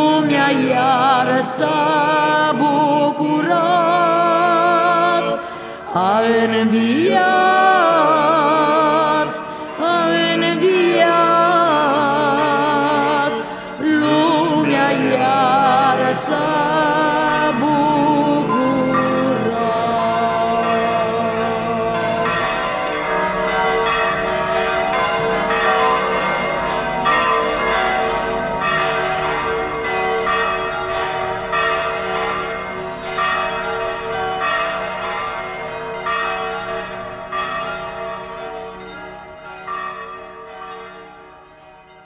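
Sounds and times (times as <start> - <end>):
church bells ringing: 0.0 - 42.0.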